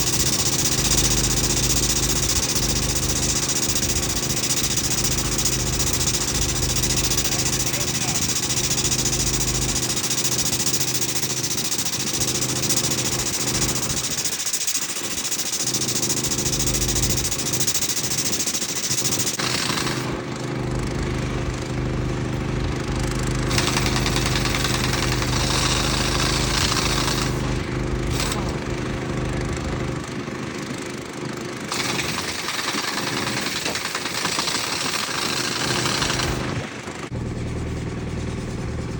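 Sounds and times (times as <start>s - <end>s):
dense mechanical rattle: 0.0s - 20.1s, 20.8s - 38.9s
engine running: 0.0s - 38.9s.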